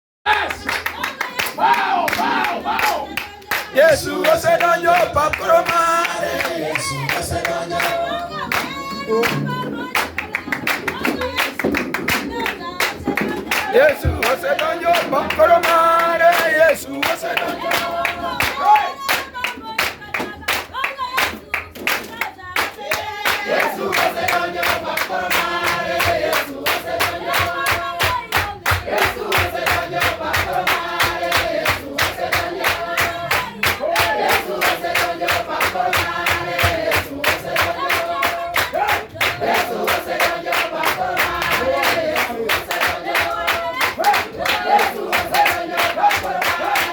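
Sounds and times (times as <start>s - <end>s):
rhythmic claps and percussion: 0.3s - 46.9s
choir singing gospel in harmony: 0.4s - 11.3s, 12.3s - 19.8s, 22.7s - 46.9s.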